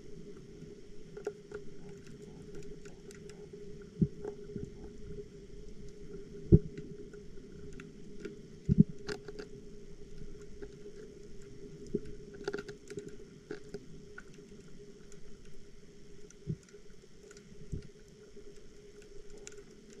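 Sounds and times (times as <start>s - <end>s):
faint underwater clicks: 0.0s - 20.0s
underwater low hum: 0.0s - 20.0s.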